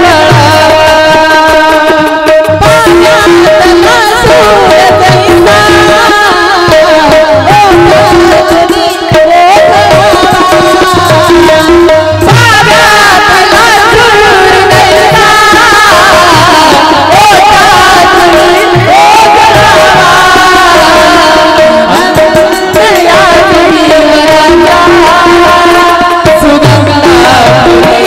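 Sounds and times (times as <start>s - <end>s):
person singing devotional melody: 0.0s - 28.0s
tabla strokes: 0.0s - 28.0s.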